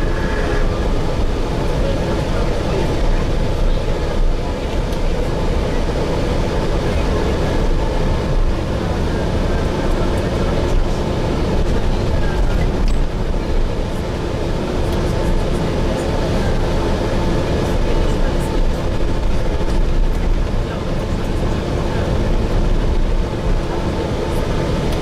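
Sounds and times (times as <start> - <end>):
bus engine rumble from inside: 0.0 - 25.0
faint passenger voices: 0.0 - 25.0.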